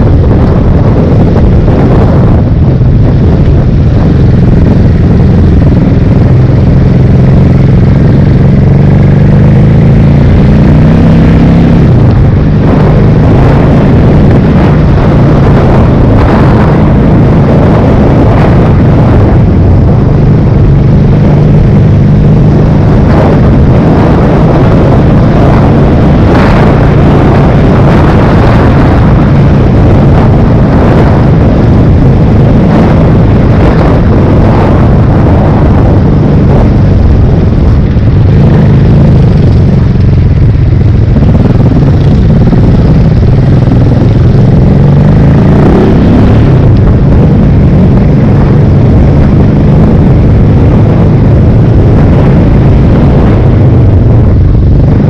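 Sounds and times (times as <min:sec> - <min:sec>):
motorcycle engine riding: 0:00.0 - 0:55.0
rush of riding noise: 0:00.0 - 0:55.0.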